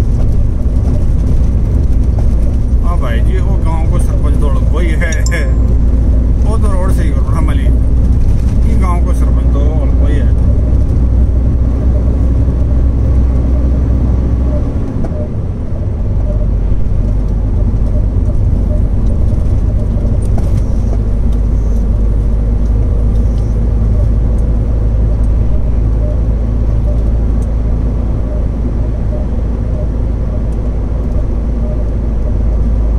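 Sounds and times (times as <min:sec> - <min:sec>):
road noise: 0:00.0 - 0:32.9
truck engine running: 0:00.0 - 0:32.9.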